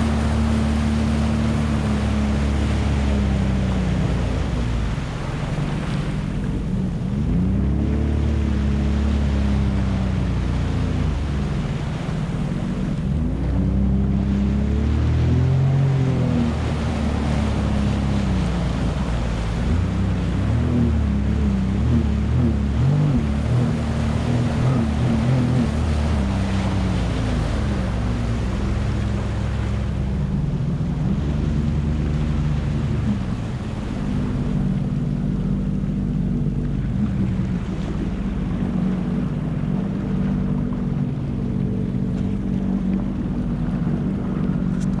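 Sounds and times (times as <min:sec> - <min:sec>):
jet ski engine running: 0:00.0 - 0:45.0
water rushing: 0:00.0 - 0:45.0
wind: 0:00.0 - 0:45.0.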